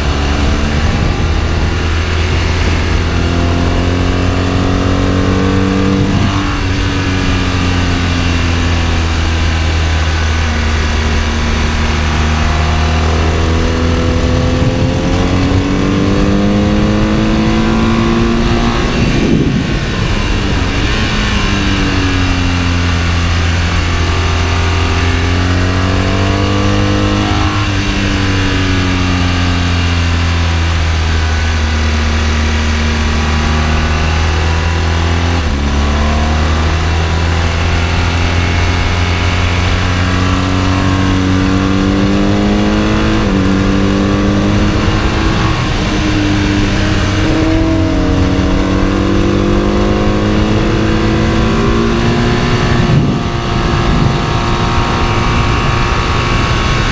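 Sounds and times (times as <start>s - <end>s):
motorcycle engine revving: 0.0s - 56.9s
wind rush on microphone: 0.0s - 56.9s.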